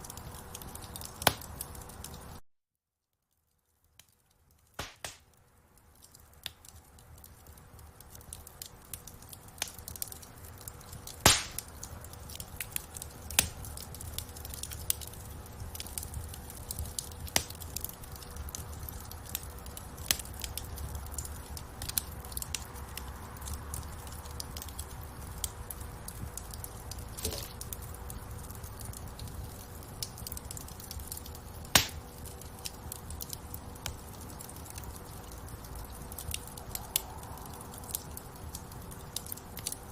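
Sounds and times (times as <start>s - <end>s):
sharp pops of fire: 0.0s - 2.3s, 4.0s - 5.4s, 6.0s - 39.8s
low rumble of flames: 0.0s - 2.4s, 3.7s - 39.9s
wood fire crackling: 0.0s - 2.4s, 3.3s - 39.9s.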